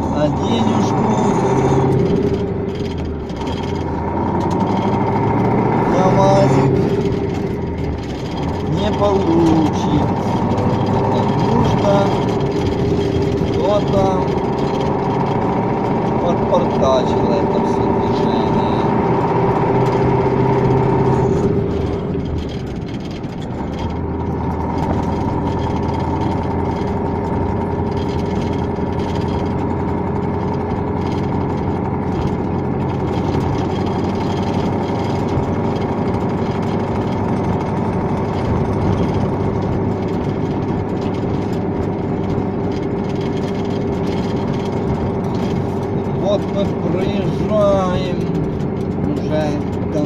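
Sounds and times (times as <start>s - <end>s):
truck diesel engine drone: 0.0s - 50.0s.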